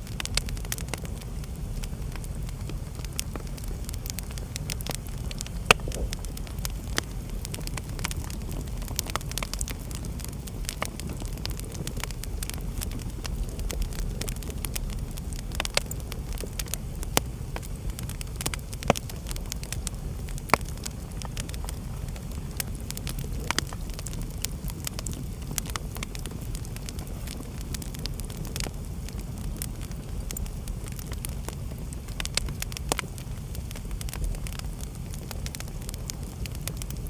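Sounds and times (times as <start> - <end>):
fire burning rumble: 0.0 - 37.0
fire popping and snapping: 0.0 - 37.0.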